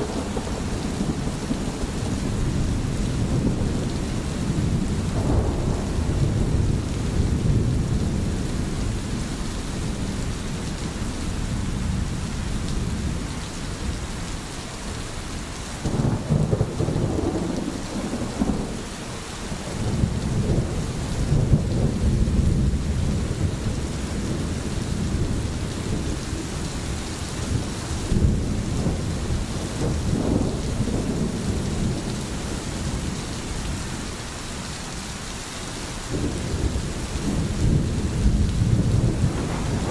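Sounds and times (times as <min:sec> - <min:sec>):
deep thunder rumbles: 0:00.0 - 0:14.0, 0:15.8 - 0:34.1, 0:36.1 - 0:39.9
heavy rain: 0:00.0 - 0:39.9.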